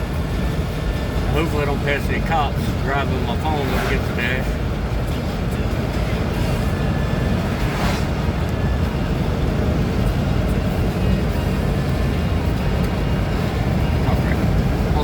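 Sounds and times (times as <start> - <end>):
truck cab road and engine rumble: 0.0 - 15.0.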